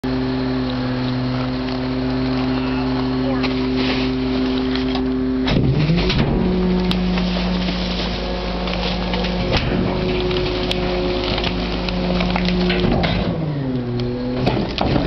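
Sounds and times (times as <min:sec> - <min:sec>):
garbage truck engine and hydraulics: 0:00.0 - 0:15.0.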